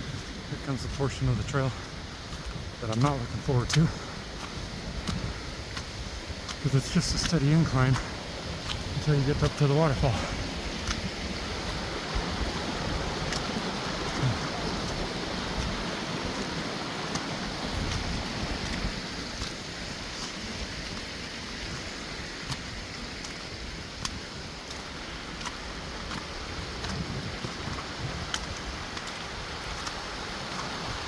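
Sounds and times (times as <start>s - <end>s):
creek water rushing: 0.0s - 31.0s.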